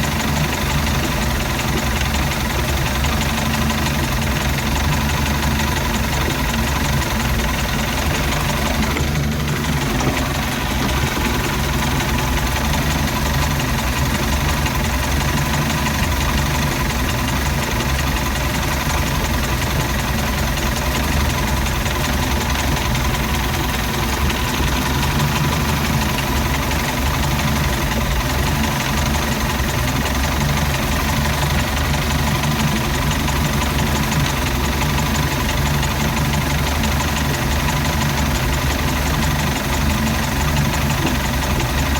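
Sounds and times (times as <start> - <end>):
boat engine idling rough: 0.0 - 41.9.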